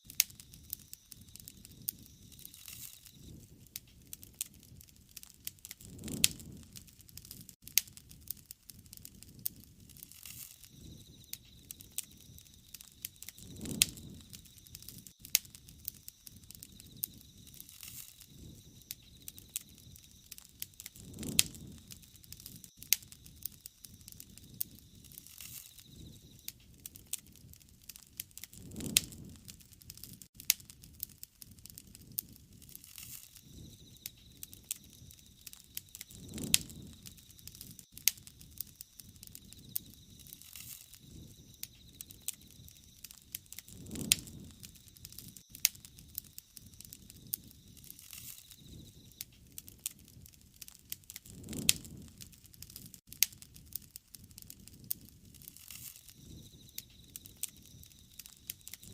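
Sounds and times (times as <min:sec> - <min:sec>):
soft low whoosh of fire: 0:00.0 - 0:58.9
wood fire crackling: 0:00.0 - 0:58.9.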